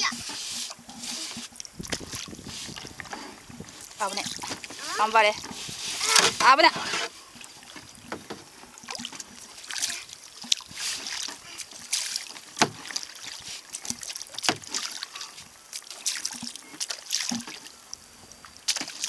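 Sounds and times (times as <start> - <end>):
water dripping: 0.0 - 6.7, 7.3 - 19.0
kayak paddle splashing in water: 0.0 - 19.0.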